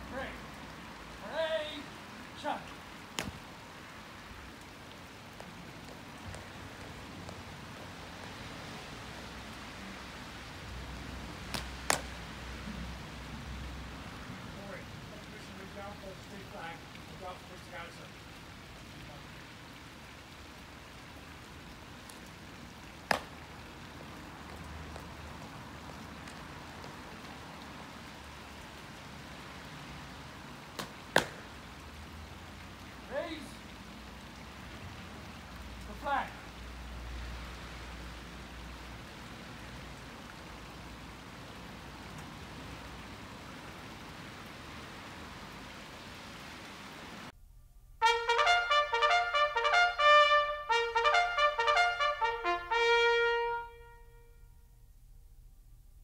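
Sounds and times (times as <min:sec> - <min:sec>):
rain hissing on wet ground: 0:00.0 - 0:47.4, 0:48.0 - 0:56.0.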